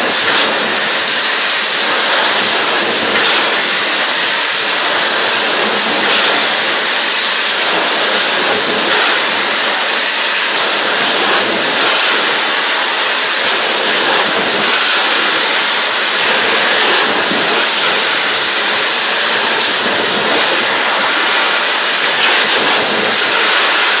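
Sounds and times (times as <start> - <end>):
high-pressure water spray hiss: 0.0 - 24.0.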